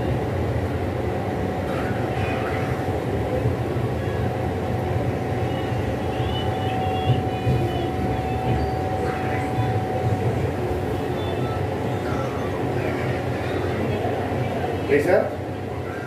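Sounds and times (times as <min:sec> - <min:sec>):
train coach rumble: 0:00.0 - 0:16.0.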